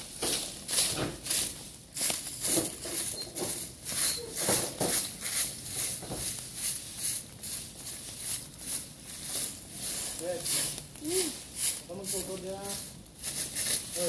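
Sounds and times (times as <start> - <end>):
broom sweeping leaves on rocky ground: 0.0 - 14.0.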